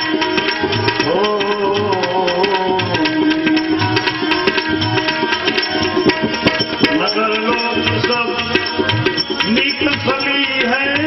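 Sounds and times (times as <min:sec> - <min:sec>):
sliding melody line: 0:00.0 - 0:11.0
tabla drumming: 0:00.0 - 0:11.0.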